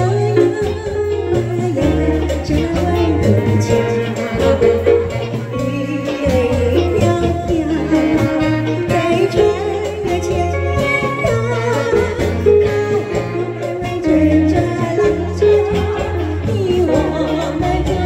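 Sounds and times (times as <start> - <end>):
live band playing: 0.0 - 18.0
woman singing into microphone: 0.0 - 18.0.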